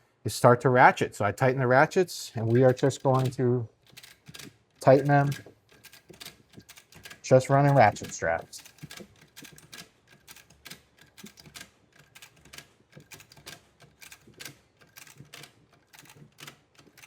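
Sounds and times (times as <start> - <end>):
ratchet strap clicking: 2.4 - 17.0.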